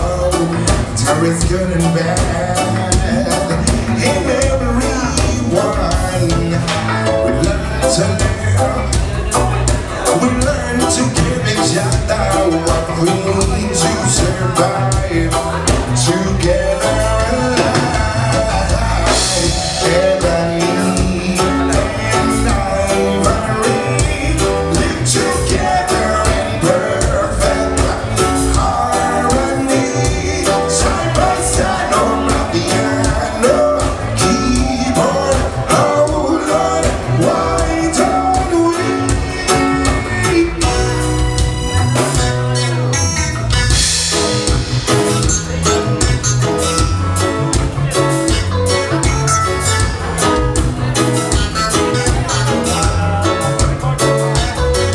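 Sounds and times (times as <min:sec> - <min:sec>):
drums beating: 0:00.0 - 0:54.9
electric guitar: 0:00.0 - 0:54.9
live band playing: 0:00.0 - 0:54.9
person singing: 0:00.0 - 0:54.9.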